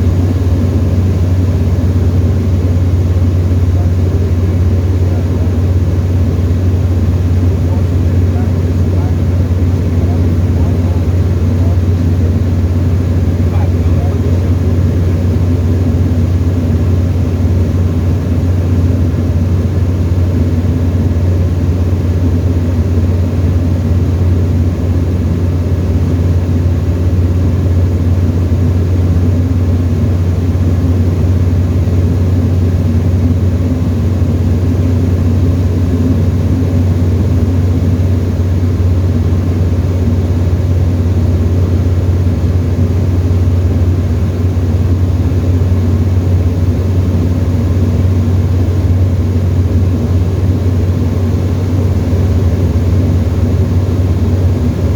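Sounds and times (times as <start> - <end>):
light aircraft engine drone: 0.0 - 54.9.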